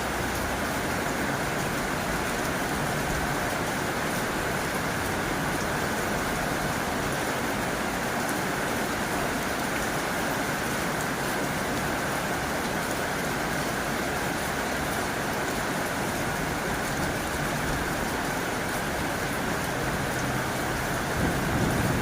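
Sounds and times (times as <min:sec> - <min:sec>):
heavy rain on a tin roof: 0:00.0 - 0:22.0.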